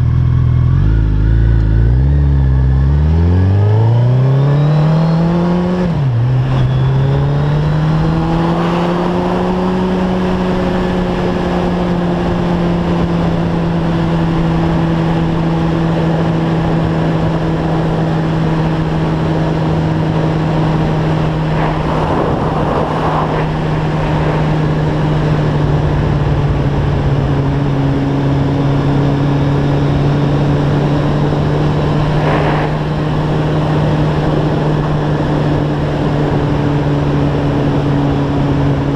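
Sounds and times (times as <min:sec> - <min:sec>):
motorcycle engine revving: 0:00.0 - 0:38.9
wind rush: 0:07.6 - 0:38.9.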